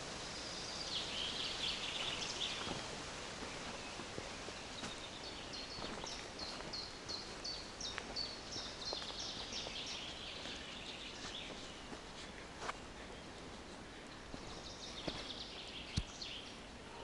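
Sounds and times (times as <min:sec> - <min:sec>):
forest ambience: 0:00.0 - 0:17.0.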